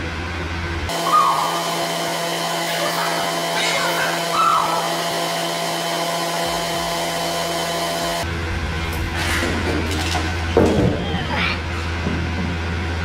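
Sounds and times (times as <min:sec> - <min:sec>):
whooshing machine noise: 0:00.4 - 0:13.0.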